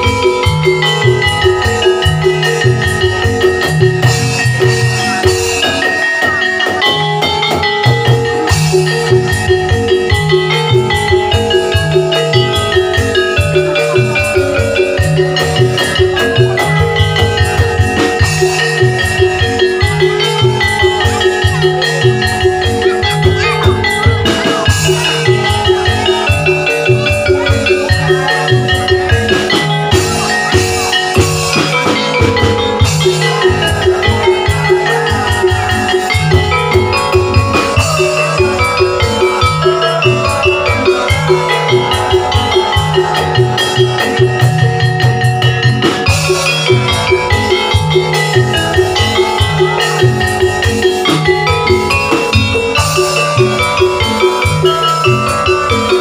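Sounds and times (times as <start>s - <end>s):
bamboo percussion melody: 0.0s - 56.0s
low drum beat: 0.0s - 56.0s.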